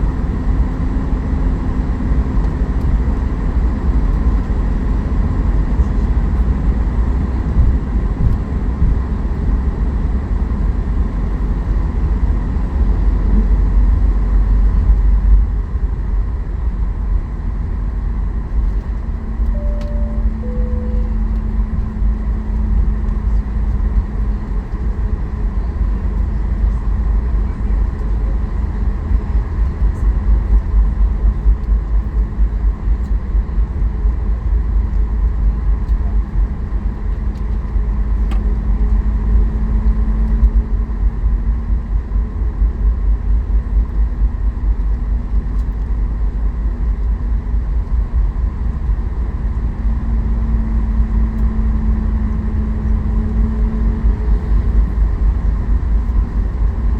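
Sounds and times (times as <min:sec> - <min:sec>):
deep rumble of aircraft rolling: 0:00.0 - 0:56.9
jet engines idling hum: 0:00.0 - 0:56.9.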